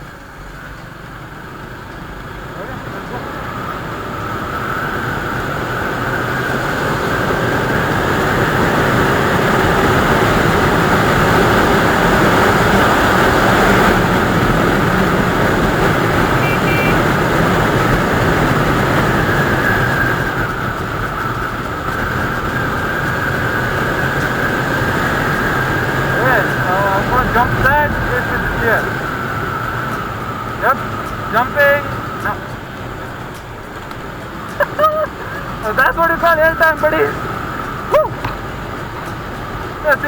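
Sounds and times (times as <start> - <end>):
motorcycle engine: 0.0 - 40.0
wind rush over microphone: 3.4 - 35.6.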